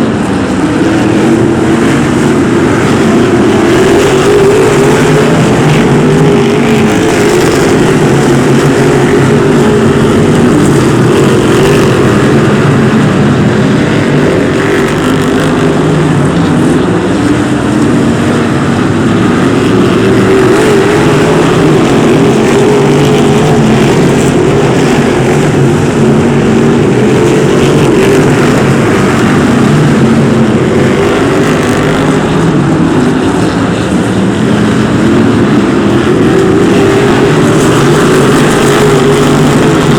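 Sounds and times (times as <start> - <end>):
race car engines at high revs: 0.0 - 39.9.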